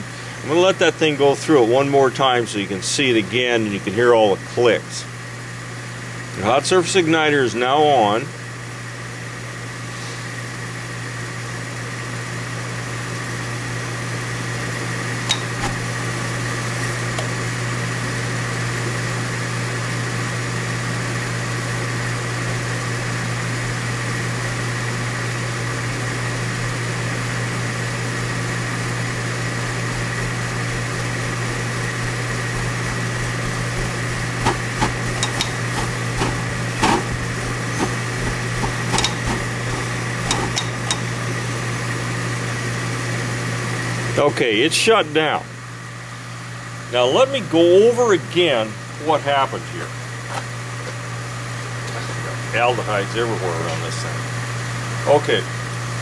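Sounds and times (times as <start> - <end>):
gas furnace hum: 0.0 - 56.0.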